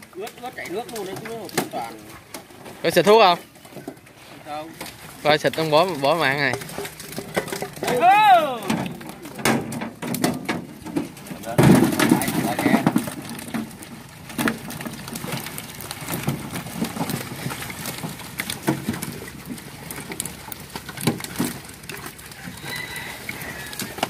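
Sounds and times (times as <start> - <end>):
fish slapping on metal tray: 4.7 - 24.0.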